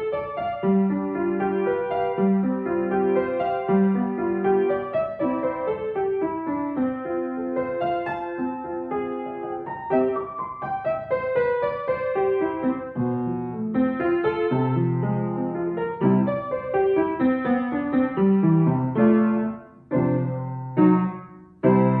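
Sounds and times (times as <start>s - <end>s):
upright piano playing: 0.0s - 22.0s.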